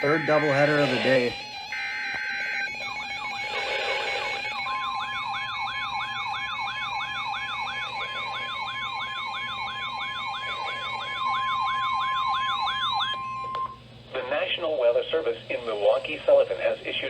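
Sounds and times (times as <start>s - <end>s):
steady high alert tone: 0.0s - 13.8s
warbling siren tone: 0.0s - 13.8s.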